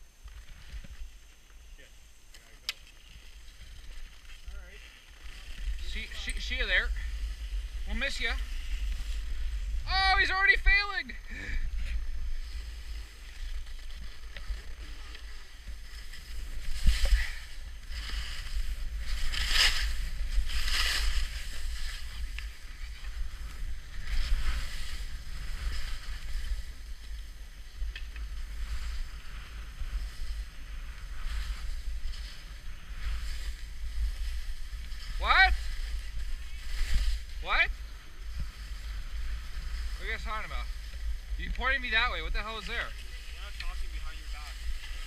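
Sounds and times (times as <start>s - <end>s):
steady low rumble: 0.0s - 45.0s
skis scraping over snow: 3.0s - 45.0s.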